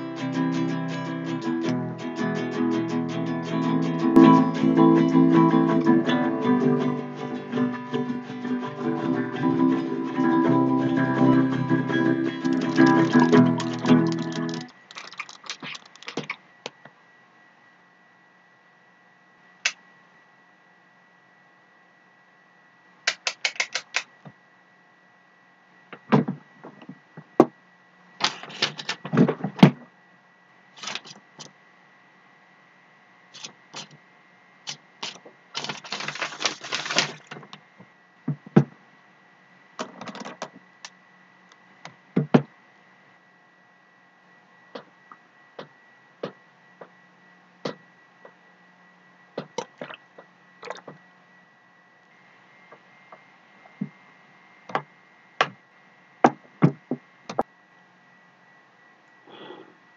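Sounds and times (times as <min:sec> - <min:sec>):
faint electrical hum: 0:00.0 - 0:59.9.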